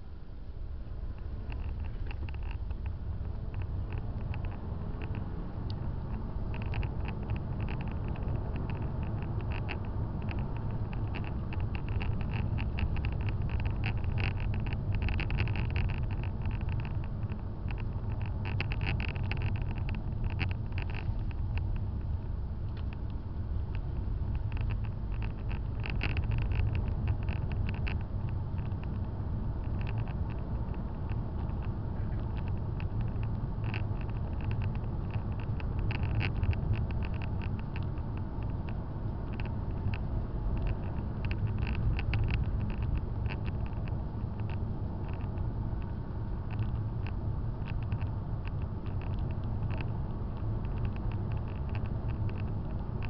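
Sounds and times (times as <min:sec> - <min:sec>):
engine and tyre rumble: 0:00.0 - 0:53.0.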